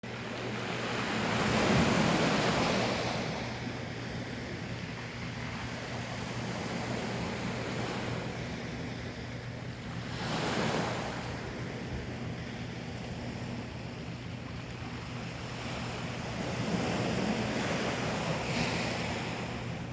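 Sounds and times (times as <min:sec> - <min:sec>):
sea waves surging: 0:00.0 - 0:19.9.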